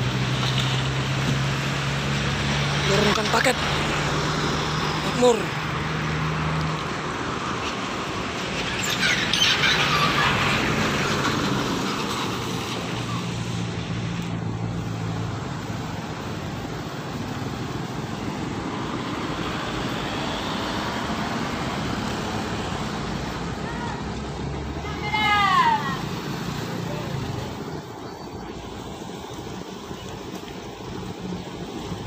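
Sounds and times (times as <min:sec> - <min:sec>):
car passing: 0:00.0 - 0:32.0.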